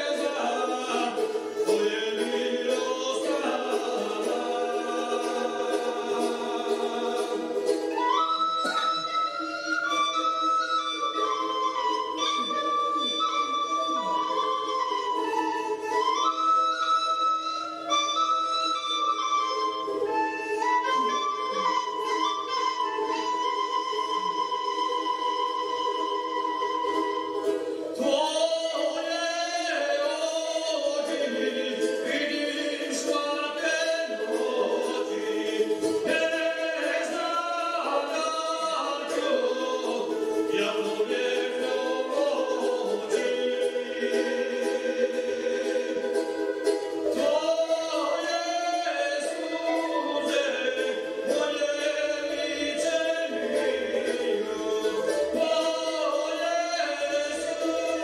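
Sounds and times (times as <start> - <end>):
folk music on wooden wind instruments: 0.0 - 58.0.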